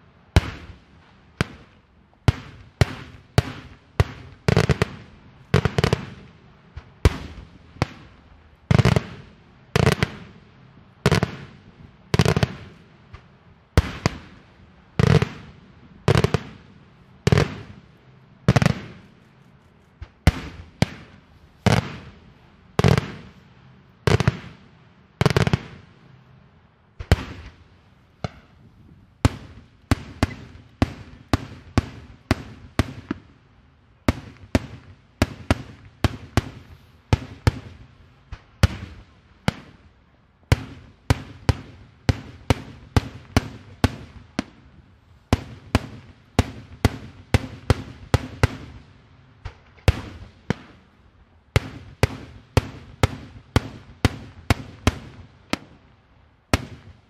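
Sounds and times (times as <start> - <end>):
fireworks bursting: 0.4 - 25.9, 27.0 - 33.3, 34.0 - 39.9, 40.5 - 50.9, 51.5 - 55.8, 56.5 - 57.0.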